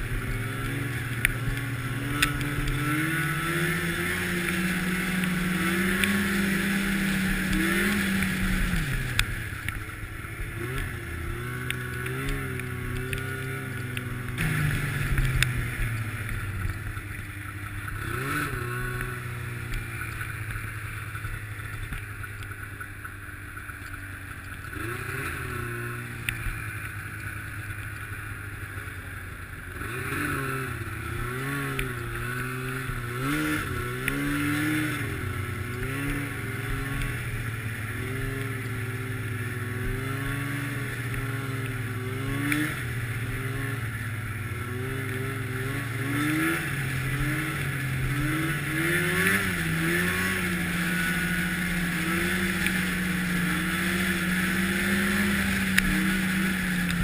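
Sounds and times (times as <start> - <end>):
snowmobile engine: 0.0 - 57.0.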